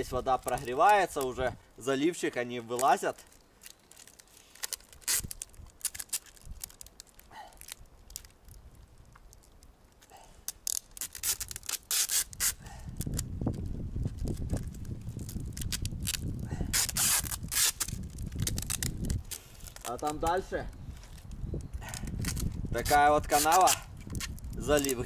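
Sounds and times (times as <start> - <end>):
adhesive tape pulled off roll: 2.6 - 20.4, 21.1 - 25.0.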